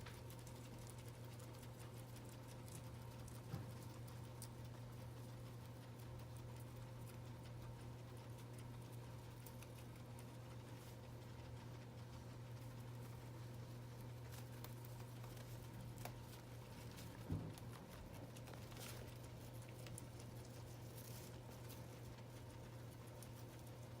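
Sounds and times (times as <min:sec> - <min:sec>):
guinea pigs crunching hay: 0:00.0 - 0:24.0
steady low hum: 0:00.0 - 0:24.0.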